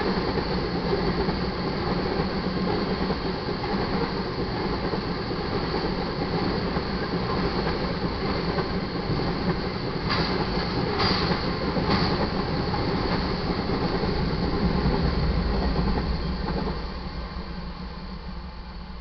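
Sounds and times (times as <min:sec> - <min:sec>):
sharp clacks of train wheels: 0:00.0 - 0:17.5
diesel locomotive rumble: 0:00.0 - 0:19.0.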